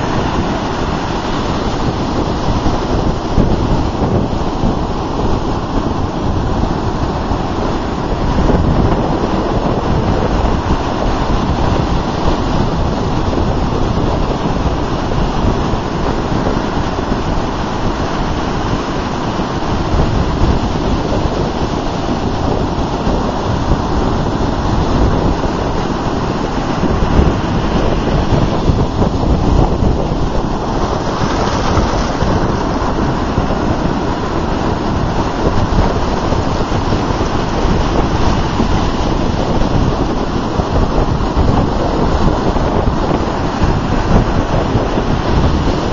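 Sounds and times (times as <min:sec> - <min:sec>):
ocean waves breaking on sand: 0:00.0 - 0:45.9
wind rumbling on microphone: 0:00.0 - 0:45.9.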